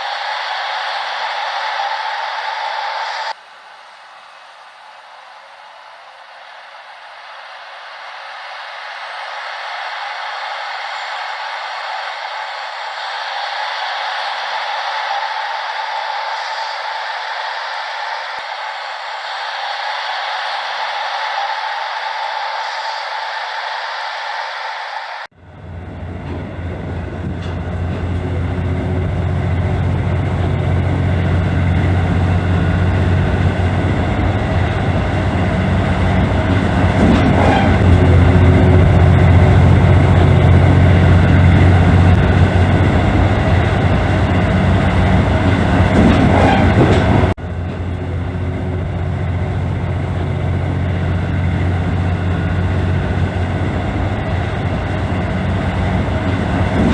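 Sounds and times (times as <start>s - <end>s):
diesel railcar engine drone: 0.0s - 56.9s
train running noise: 0.0s - 56.9s.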